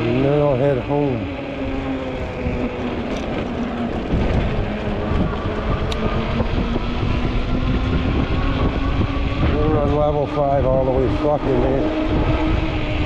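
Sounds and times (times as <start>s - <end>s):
electric motor hum: 0.0s - 13.0s
wind buffeting microphone: 0.0s - 13.0s.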